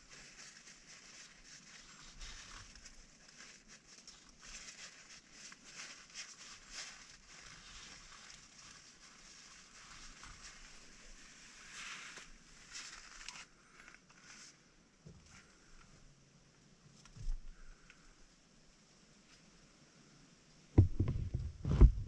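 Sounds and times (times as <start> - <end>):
faint rustling and crunching: 0.0 - 20.1.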